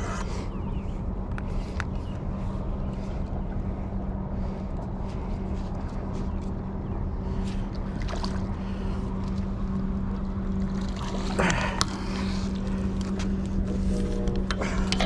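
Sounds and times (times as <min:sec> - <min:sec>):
low engine hum: 0:00.0 - 0:15.0
wind rumble on microphone: 0:00.0 - 0:15.0.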